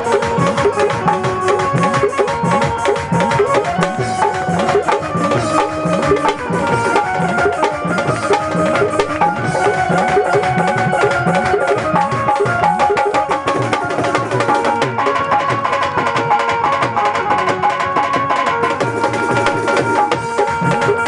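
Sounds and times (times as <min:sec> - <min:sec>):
hand drum with pitch bends: 0:00.0 - 0:21.0
held melody line: 0:00.0 - 0:21.0
quick percussion strikes: 0:00.0 - 0:21.0.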